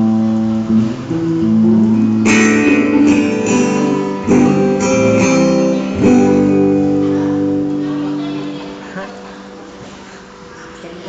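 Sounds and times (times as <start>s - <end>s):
guitar chords ringing: 0.0s - 11.0s.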